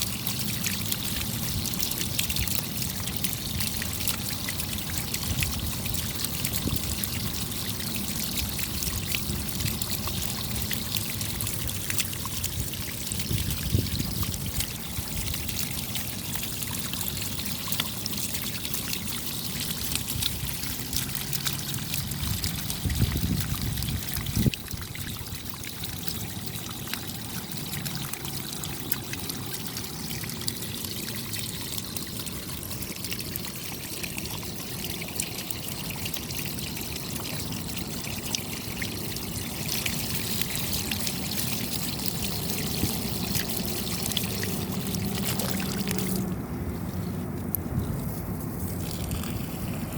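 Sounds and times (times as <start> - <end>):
rain patter: 0.0 - 47.6
trickling water: 0.0 - 49.9.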